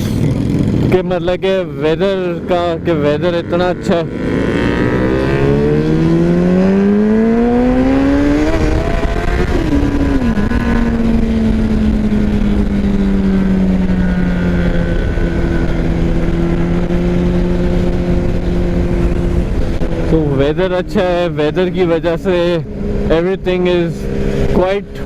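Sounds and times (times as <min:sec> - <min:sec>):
motorcycle engine: 0:00.0 - 0:25.0
wind noise: 0:04.0 - 0:25.0.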